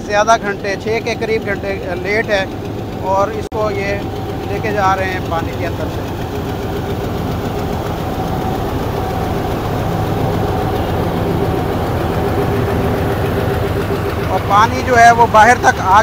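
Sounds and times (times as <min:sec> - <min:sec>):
diesel locomotive engine running: 0:00.0 - 0:16.0.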